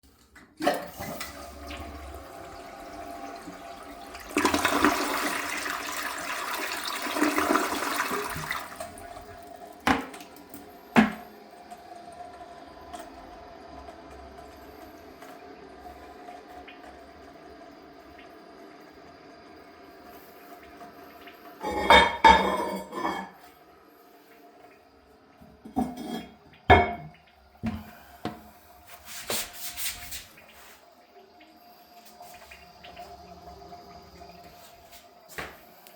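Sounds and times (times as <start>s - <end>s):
toilet flushing: 0.0s - 35.9s
toilet tank refilling hiss: 0.2s - 35.9s.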